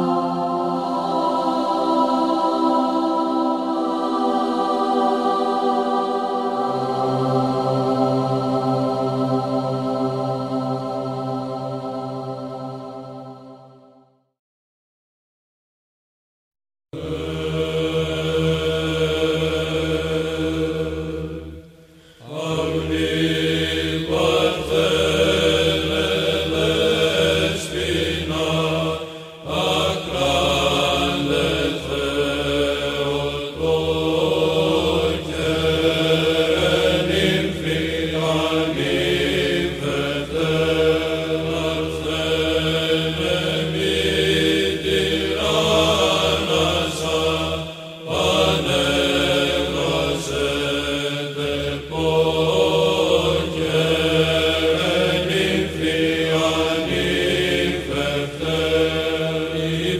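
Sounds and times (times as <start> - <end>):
chanting voices: 0.0 - 13.8, 17.0 - 59.9.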